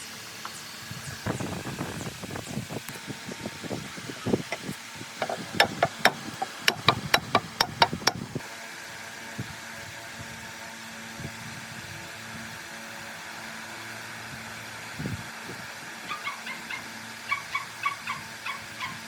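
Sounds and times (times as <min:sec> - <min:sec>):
electric motor humming: 0:00.0 - 0:19.0.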